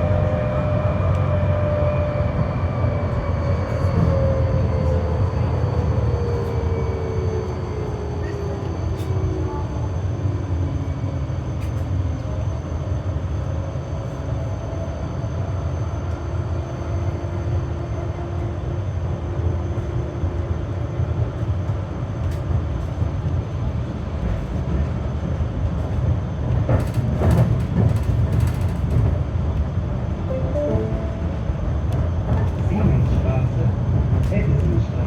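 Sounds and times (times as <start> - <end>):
tram rumble: 0.0 - 35.0.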